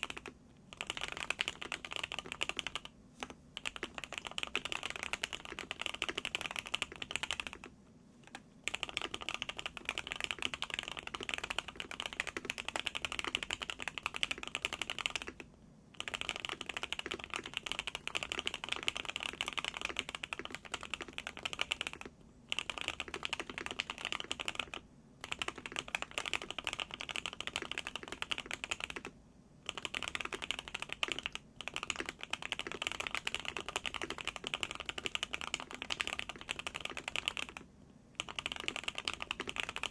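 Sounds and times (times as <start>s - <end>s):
fast mechanical keyboard typing: 0.0s - 7.7s, 8.3s - 15.4s, 16.0s - 39.9s.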